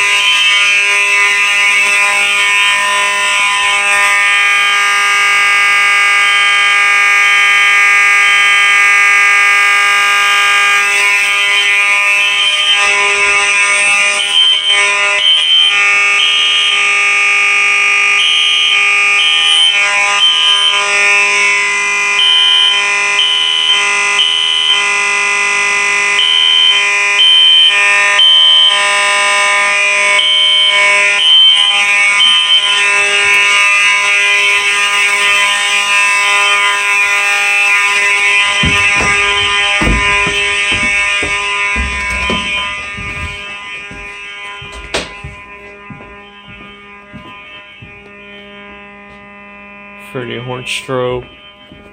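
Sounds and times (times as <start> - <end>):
fire alarm horn steady tone: 0.0 - 51.9
higher alarm tone: 0.0 - 51.9.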